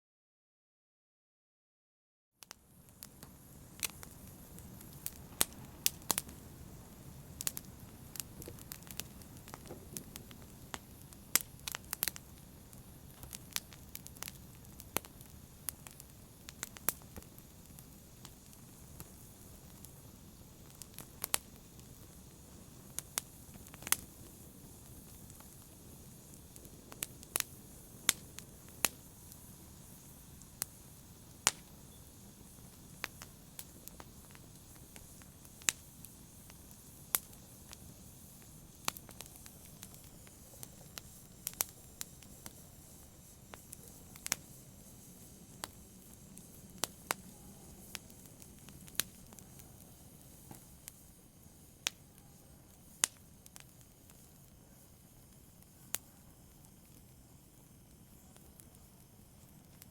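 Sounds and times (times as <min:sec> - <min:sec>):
fire crackles and pops: 0:02.4 - 0:59.9
wood fire hissing: 0:02.4 - 0:59.9.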